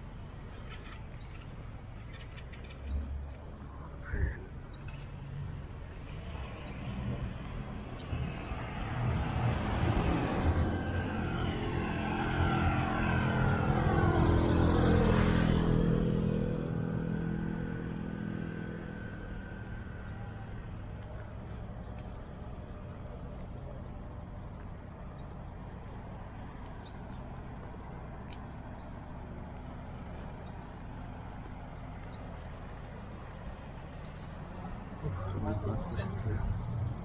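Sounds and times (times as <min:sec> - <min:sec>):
vehicle passing by: 0:06.0 - 0:37.0.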